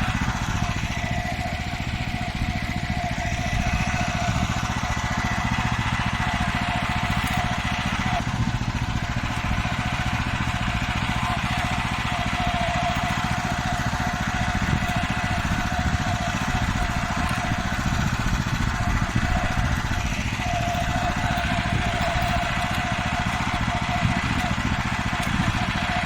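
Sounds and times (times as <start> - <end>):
steady whine: 0.0 - 26.0
tractor engine running: 0.0 - 26.0.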